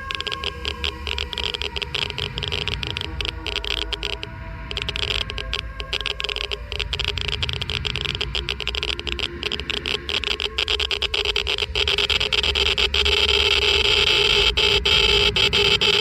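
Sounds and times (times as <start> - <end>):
geiger counter clicking: 0.0 - 16.0
steady hum: 0.0 - 16.0.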